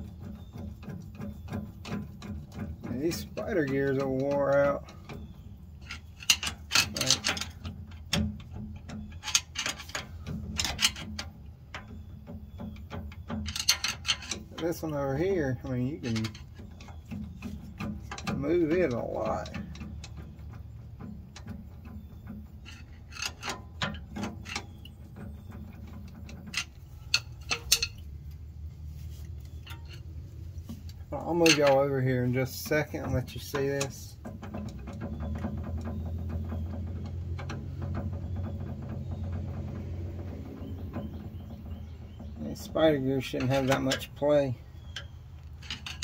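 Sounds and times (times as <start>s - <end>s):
metallic gear clicks and clunks: 0.0s - 46.0s.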